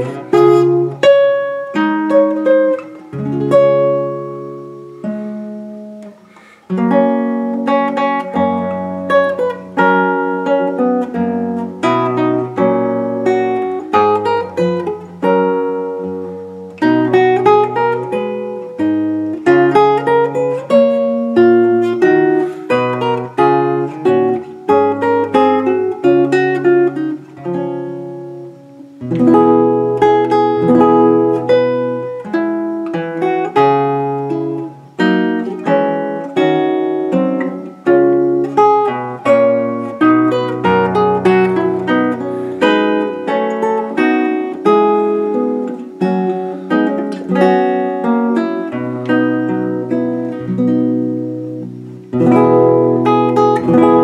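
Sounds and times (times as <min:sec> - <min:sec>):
fingerstyle classical guitar: 0:00.0 - 0:54.0.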